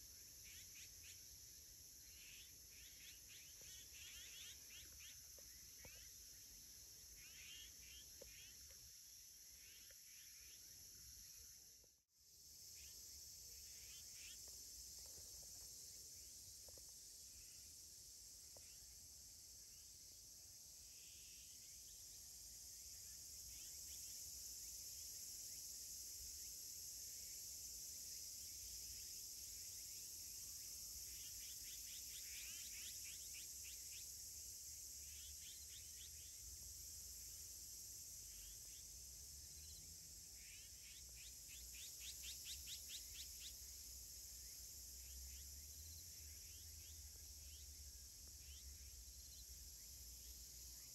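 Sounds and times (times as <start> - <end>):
insect chorus shrilling: 0.0 - 11.6, 12.6 - 17.9, 20.8 - 50.9.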